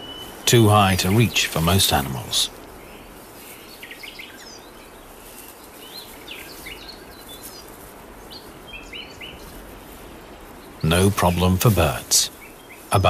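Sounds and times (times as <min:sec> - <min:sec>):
forest ambience hiss: 0:00.0 - 0:13.0
small birds chirping: 0:00.0 - 0:13.0.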